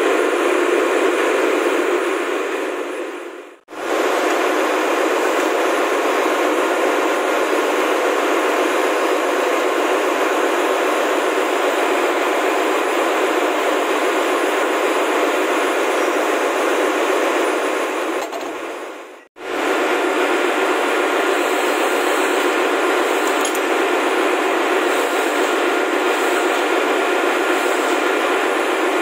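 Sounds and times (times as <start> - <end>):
ship engine room machinery roar: 0.0 - 29.0.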